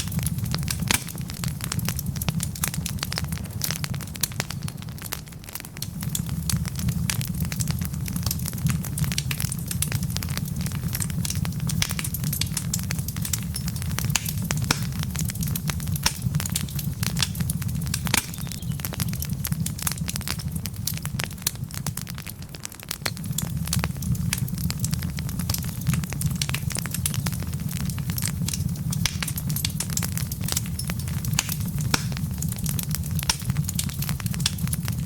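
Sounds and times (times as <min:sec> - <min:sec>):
burning logs popping: 0:00.0 - 0:35.0
wood fire crackling: 0:00.0 - 0:35.0.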